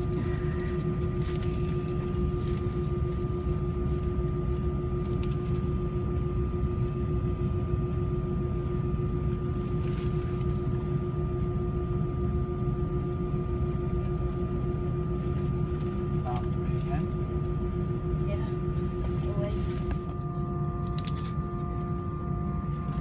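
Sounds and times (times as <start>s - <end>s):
jet engine and airflow rumble: 0.0s - 23.0s
steady humming tones: 0.0s - 23.0s.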